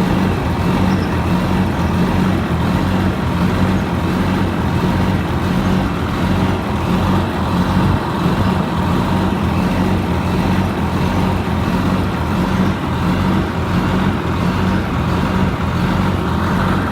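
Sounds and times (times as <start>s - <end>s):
diesel engine running steadily: 0.0s - 16.9s.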